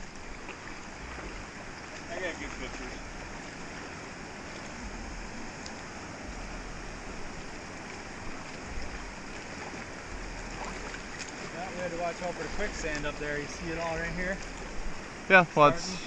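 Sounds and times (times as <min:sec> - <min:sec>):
creek water rushing: 0:00.0 - 0:16.0
low rumbles: 0:00.0 - 0:16.0.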